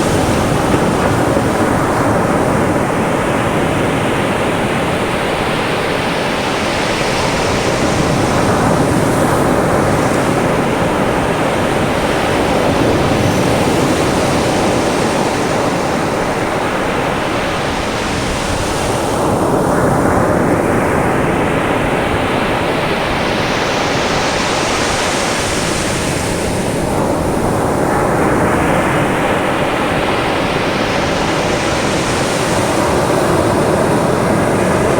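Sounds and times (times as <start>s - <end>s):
surf washing up a beach: 0.0s - 34.9s.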